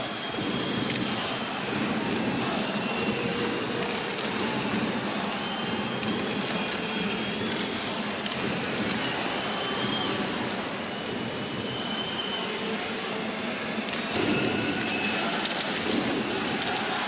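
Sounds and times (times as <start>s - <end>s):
crowd noise: 0.0s - 17.0s.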